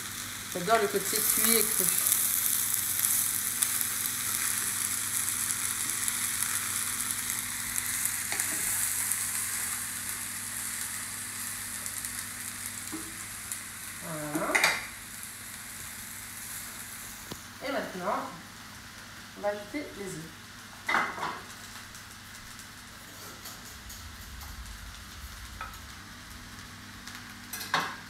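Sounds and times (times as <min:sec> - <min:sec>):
vegetables sizzling in a frying pan: 0:00.0 - 0:28.0.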